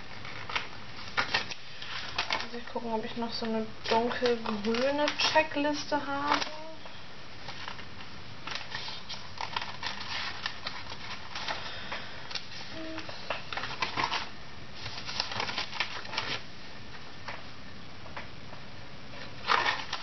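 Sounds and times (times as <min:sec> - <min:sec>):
paper pages rustling: 0:00.0 - 0:06.8, 0:07.4 - 0:16.5, 0:19.2 - 0:20.0.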